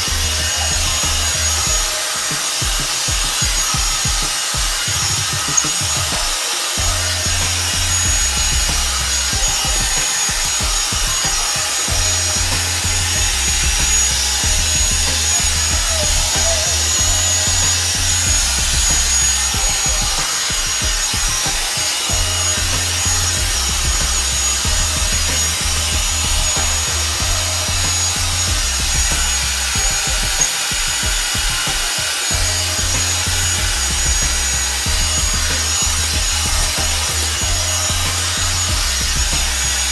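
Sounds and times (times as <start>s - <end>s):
hair dryer brush blowing air: 0.0s - 39.9s
music with bass line: 0.0s - 39.9s.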